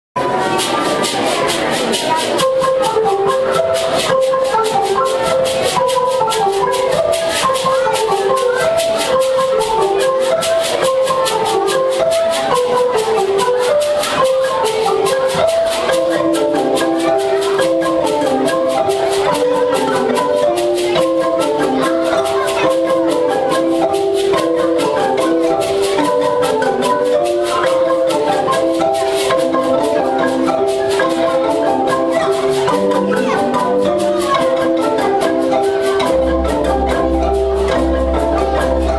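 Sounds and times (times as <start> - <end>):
marimba band melody: 0.2 - 38.9.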